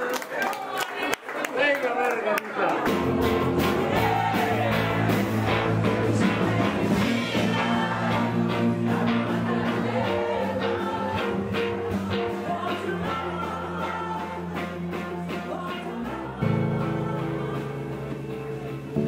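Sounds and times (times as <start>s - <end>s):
song with guitar and beat: 2.9s - 19.0s.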